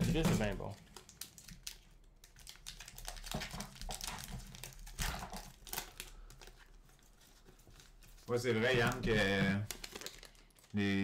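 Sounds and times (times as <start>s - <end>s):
cards and packaging crinkling: 0.0s - 11.0s.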